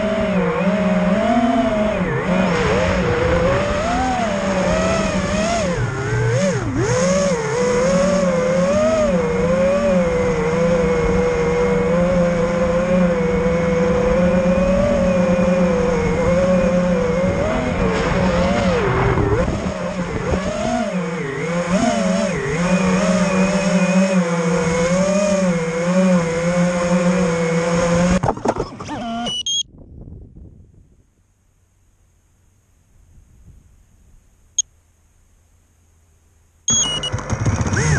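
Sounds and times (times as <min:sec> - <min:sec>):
drone motors whining: 0:00.0 - 0:29.6, 0:36.7 - 0:37.9.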